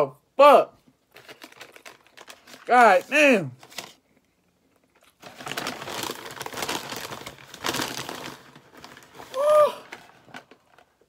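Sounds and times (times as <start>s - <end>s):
paper bag rustling: 1.1s - 4.0s, 5.0s - 11.0s.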